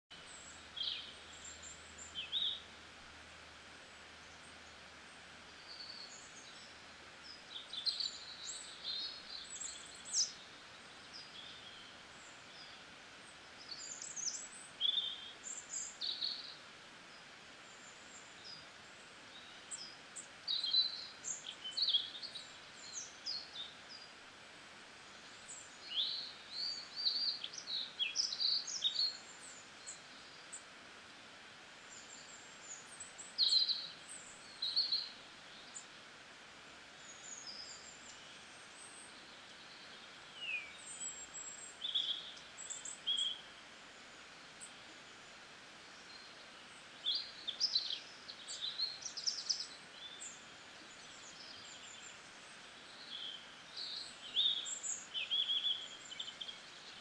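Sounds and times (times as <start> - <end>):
birds chirping: 0.1 - 31.0, 31.8 - 57.0
steady faint hiss: 0.1 - 57.0.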